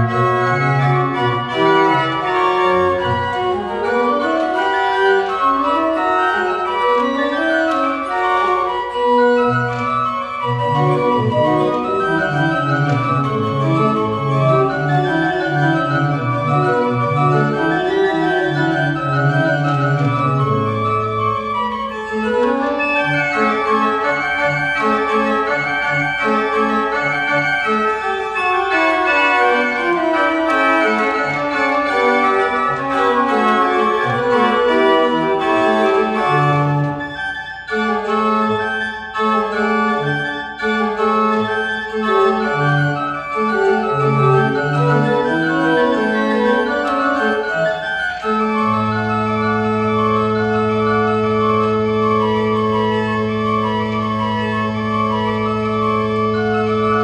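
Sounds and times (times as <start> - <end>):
pipe organ playing: 0.0 - 57.0.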